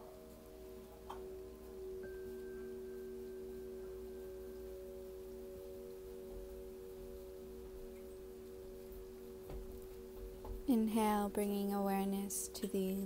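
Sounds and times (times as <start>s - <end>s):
faint higher tone: 0.0s - 12.0s
meditation drone ringing tones: 0.0s - 13.0s.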